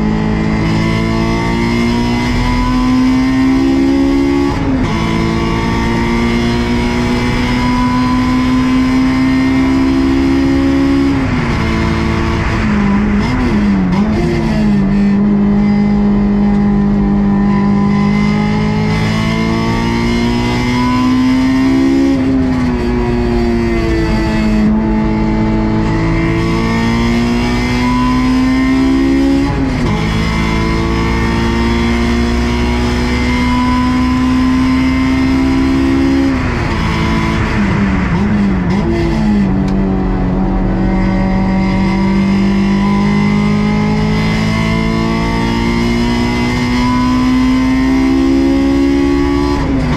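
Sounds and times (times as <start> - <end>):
car engine revving hard: 0.0 - 49.9.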